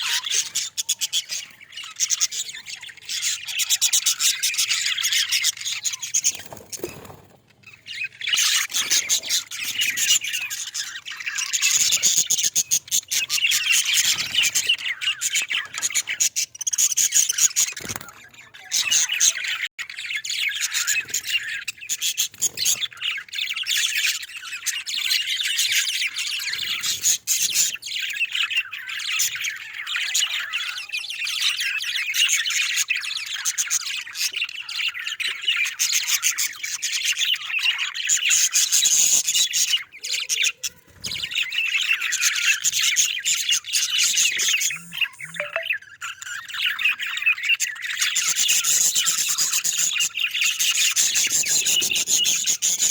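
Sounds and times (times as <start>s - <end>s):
budgerigars chattering and squawking: 0.0s - 52.9s.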